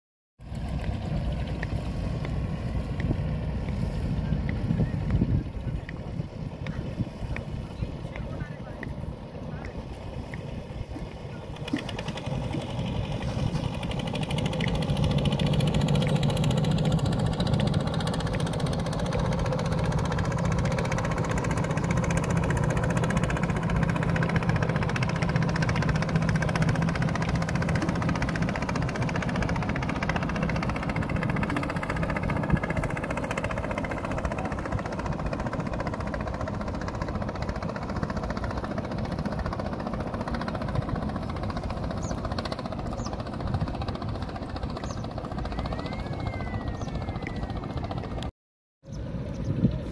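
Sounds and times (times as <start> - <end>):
boat engine droning: 0.4 - 49.9.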